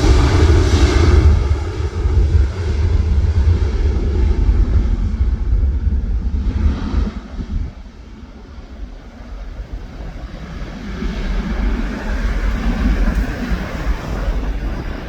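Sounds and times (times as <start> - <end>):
jet engines low rumble: 0.0 - 15.0.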